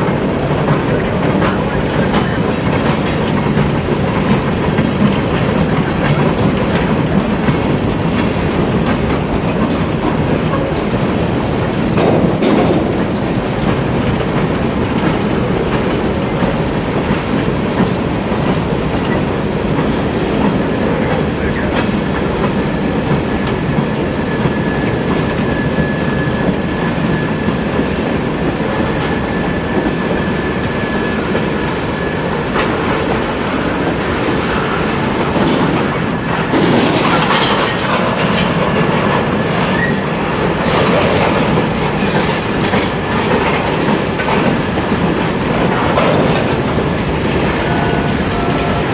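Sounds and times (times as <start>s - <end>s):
train wheels clattering on rails: 0.0s - 48.9s.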